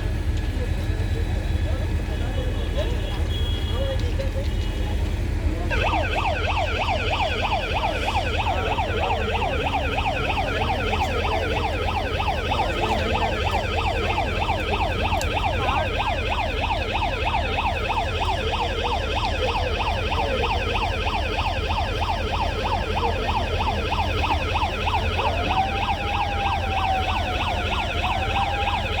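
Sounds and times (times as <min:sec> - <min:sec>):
electronic siren warbling: 0:05.7 - 0:29.0.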